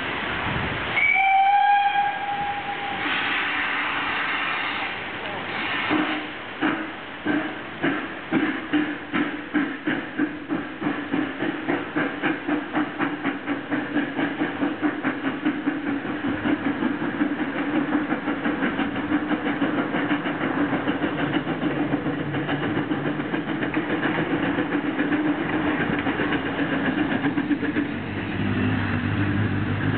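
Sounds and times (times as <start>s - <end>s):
steam exhaust chuffing: 1.9s - 29.9s.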